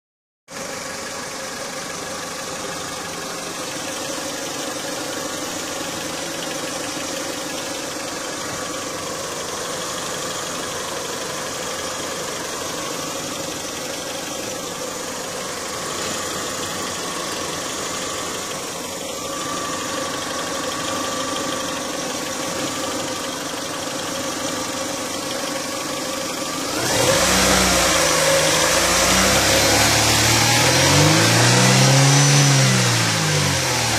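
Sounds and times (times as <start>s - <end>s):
engine idling and revving: 0.5s - 33.9s.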